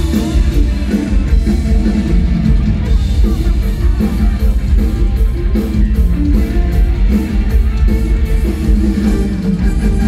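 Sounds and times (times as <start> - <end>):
electric guitar: 0.0 - 10.0
heavy bass line: 0.0 - 10.0
live band music over loudspeakers: 0.0 - 10.0.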